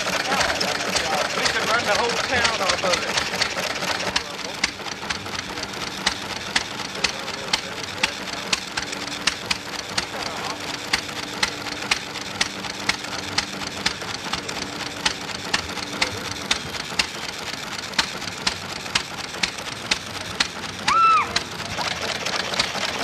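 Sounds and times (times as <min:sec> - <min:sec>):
stationary engine clacking: 0:00.0 - 0:23.0.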